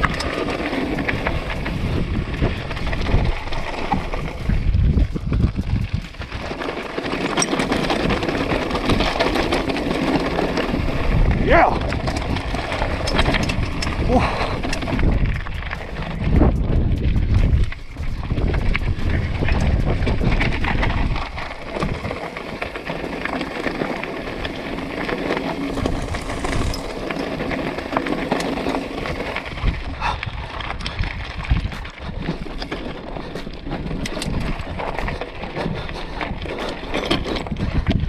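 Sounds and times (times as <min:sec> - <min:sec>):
bike rattling: 0:00.0 - 0:38.0
tyres crunching on stones: 0:00.0 - 0:38.0
wind buffeting microphone: 0:00.0 - 0:38.0.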